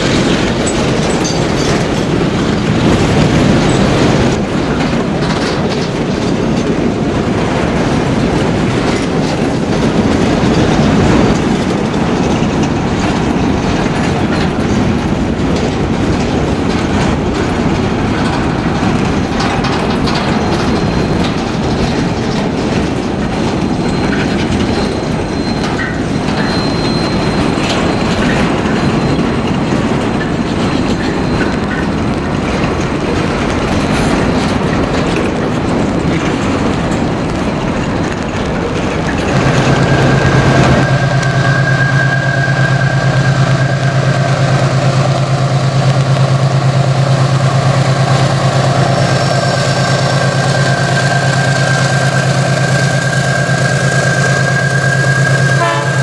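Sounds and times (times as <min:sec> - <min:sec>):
diesel locomotive engine hum: 0:00.0 - 0:56.0
train wheels rumbling on rails: 0:00.0 - 0:56.0.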